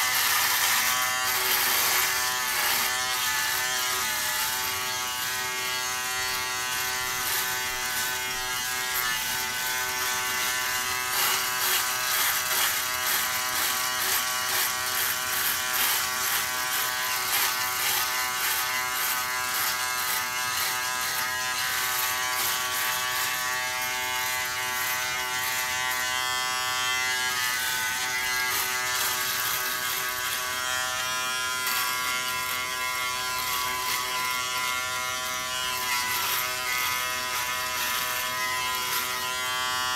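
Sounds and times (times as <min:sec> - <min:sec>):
electric shaver motor hum: 0:00.0 - 0:39.9
shaver cutting stubble: 0:00.0 - 0:39.9.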